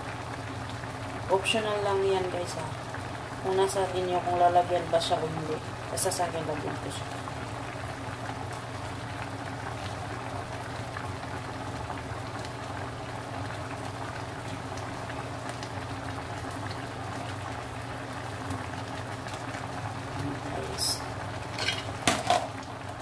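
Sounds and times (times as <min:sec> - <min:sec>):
broth bubbling in a pot: 0:00.0 - 0:23.0.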